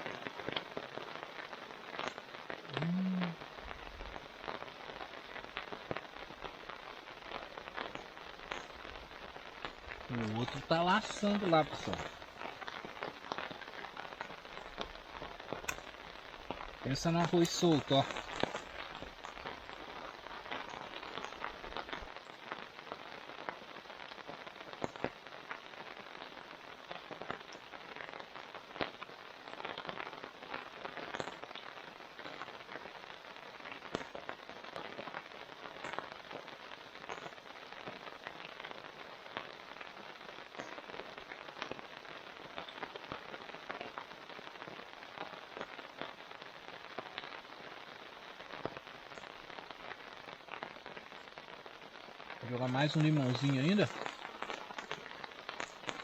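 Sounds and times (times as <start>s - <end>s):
raindrop hits: 0.0s - 56.0s
steady rain: 0.0s - 56.0s.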